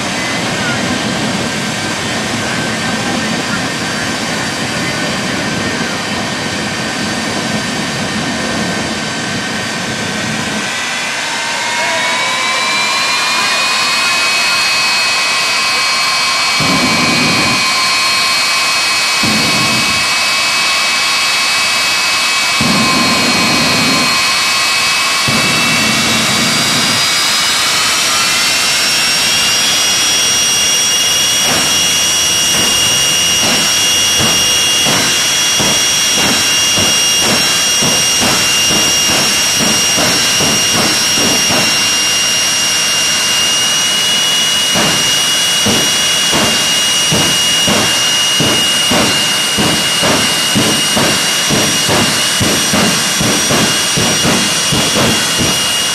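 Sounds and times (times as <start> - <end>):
jet engine high whine: 0.0 - 55.9
pulsing rumble: 0.0 - 55.9.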